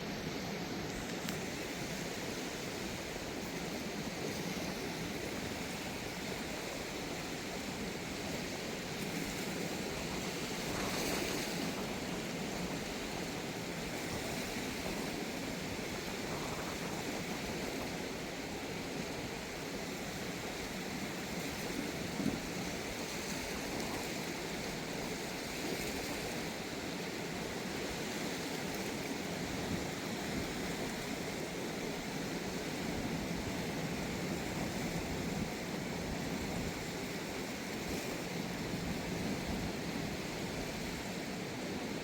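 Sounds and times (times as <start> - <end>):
river rushing: 0.0 - 42.0.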